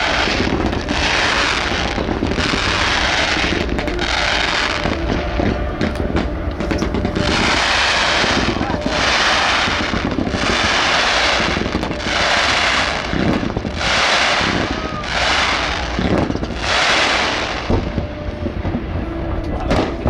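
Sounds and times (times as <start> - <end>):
continuous low rumble: 0.0 - 20.0
fireworks crackling bursts: 0.0 - 20.0.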